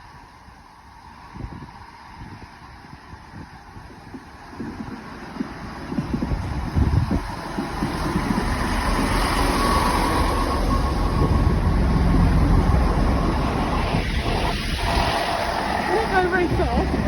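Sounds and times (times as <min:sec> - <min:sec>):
diesel train engines rumbling: 0:00.0 - 0:17.0.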